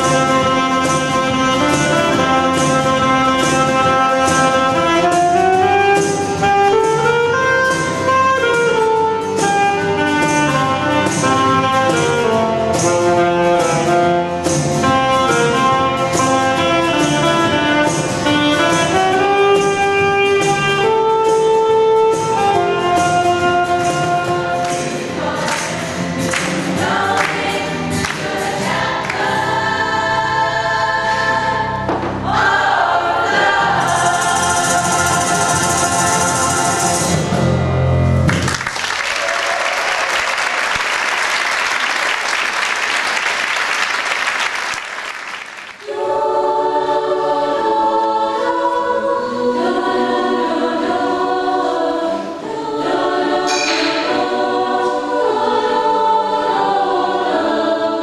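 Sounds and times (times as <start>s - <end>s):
choir singing with accompaniment: 0.0s - 38.3s, 45.7s - 58.0s.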